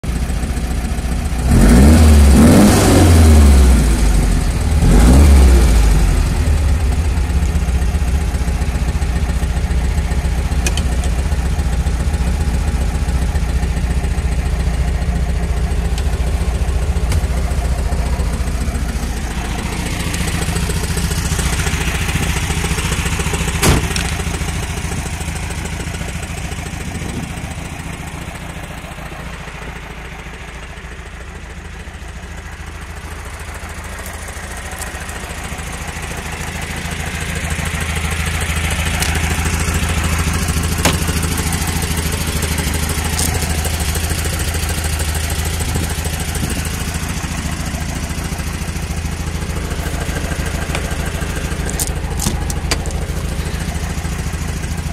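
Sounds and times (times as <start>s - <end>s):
car engine revving and idling: 0.0s - 54.9s.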